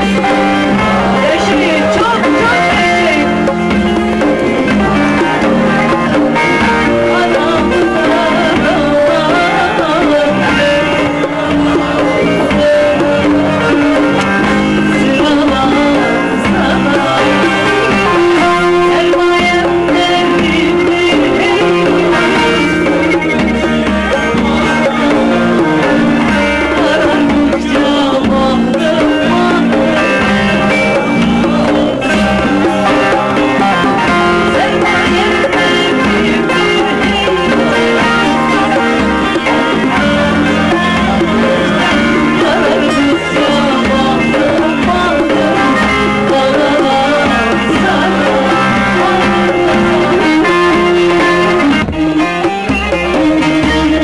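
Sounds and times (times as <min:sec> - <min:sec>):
drum and hand percussion: 0:00.0 - 0:54.0
plucked strings: 0:00.0 - 0:54.0
woman singing: 0:00.0 - 0:54.0.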